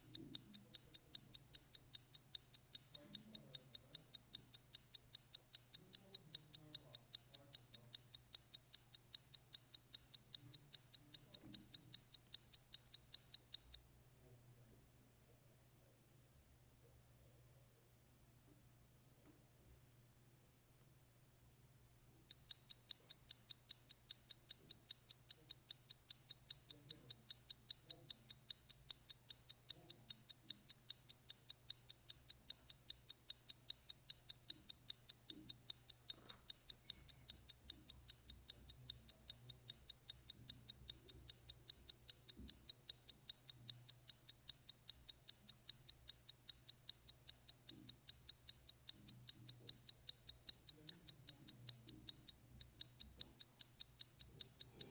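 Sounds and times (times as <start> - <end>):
clock ticking: 0.0 - 13.8, 22.3 - 54.9.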